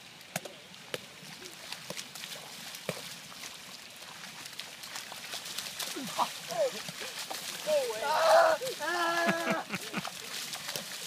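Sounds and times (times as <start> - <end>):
feet splashing in water: 0.8 - 11.0.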